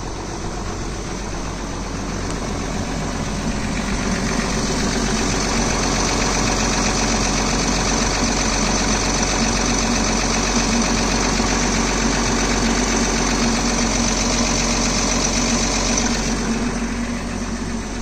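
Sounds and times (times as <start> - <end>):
engine idling: 0.0 - 18.0
metallic engine knock: 0.0 - 18.0.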